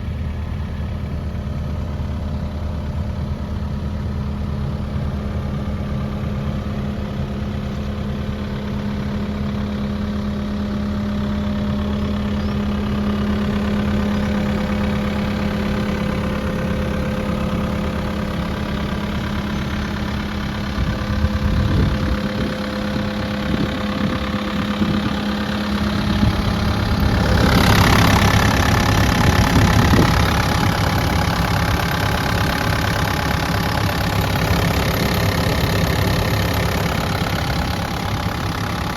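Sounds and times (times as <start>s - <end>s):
engine whine: 0.0s - 38.9s
excavator diesel engine idling: 0.0s - 38.9s.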